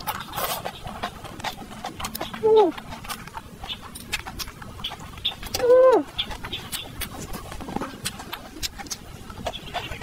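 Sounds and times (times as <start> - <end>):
wet chewing mouth sounds: 0.0 - 10.0.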